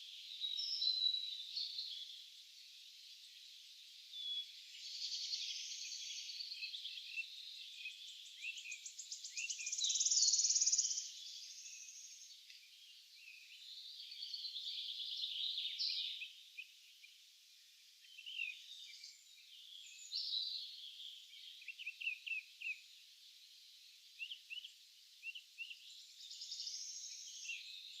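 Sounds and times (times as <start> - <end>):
birds singing: 3.2 - 17.2, 17.9 - 23.0, 23.8 - 28.0.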